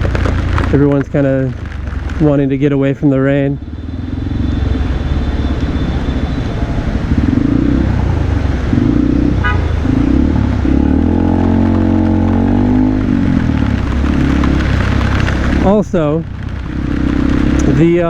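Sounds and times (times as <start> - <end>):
motorbike engine accelerating: 0.0 - 18.0
road and wind noise: 0.0 - 18.0.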